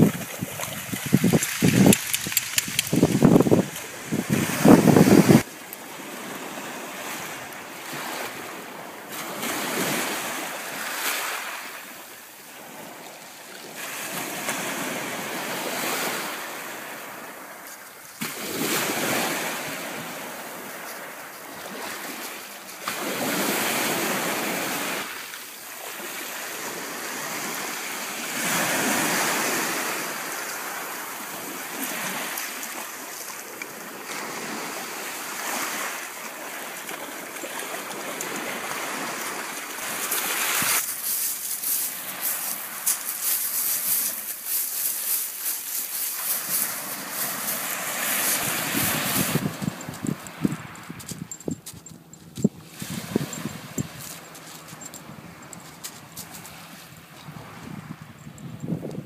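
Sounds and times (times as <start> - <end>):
waves washing over pebbles: 0.0 - 17.5, 18.2 - 51.2.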